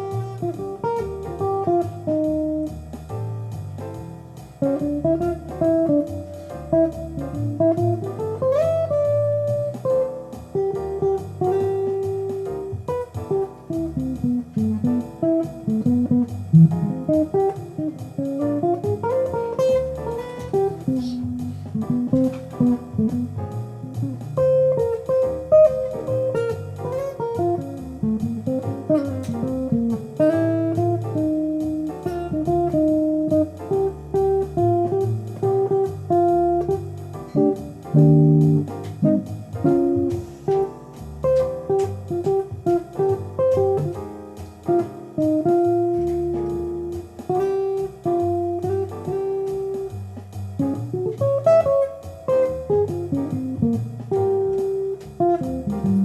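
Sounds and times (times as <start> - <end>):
bass line: 0.0 - 56.0
plucked guitar notes: 0.0 - 56.0.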